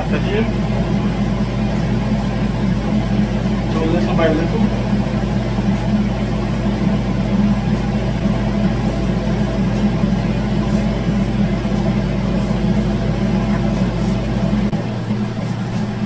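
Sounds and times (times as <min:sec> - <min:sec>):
appliance motor humming: 0:00.0 - 0:16.0
hand mixing flour in metal bowl: 0:00.4 - 0:16.0.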